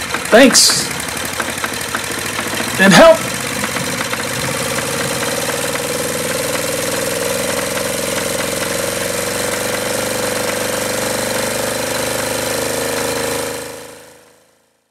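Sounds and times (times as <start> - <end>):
diesel engine running: 0.0 - 12.5.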